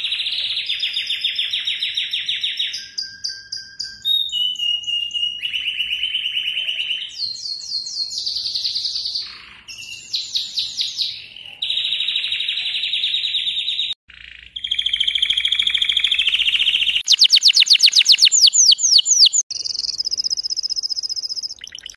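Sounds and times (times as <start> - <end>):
canary singing trills and whistles: 0.0 - 21.9.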